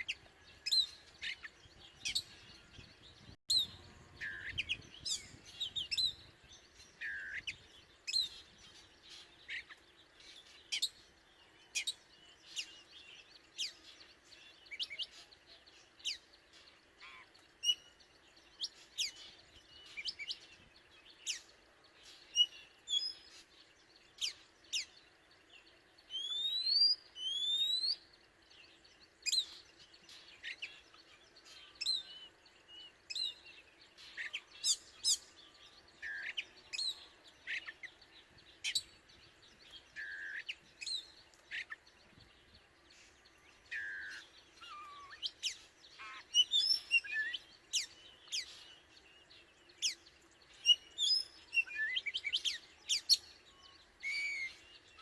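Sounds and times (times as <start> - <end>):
bird singing: 0.0 - 55.0.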